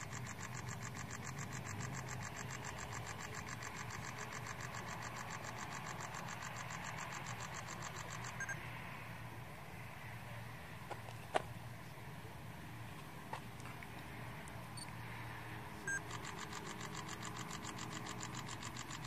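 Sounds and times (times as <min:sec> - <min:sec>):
distant car traffic hum: 0:00.0 - 0:19.0.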